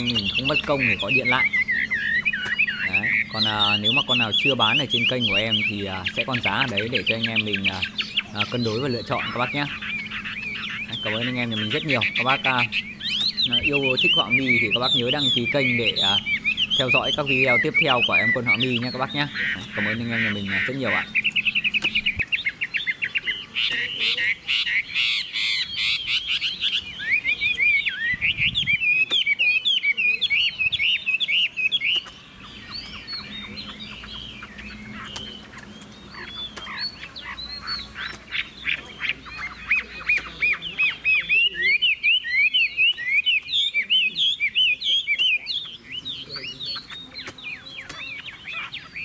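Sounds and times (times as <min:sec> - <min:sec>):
bird singing fast trills: 0:00.0 - 0:49.0.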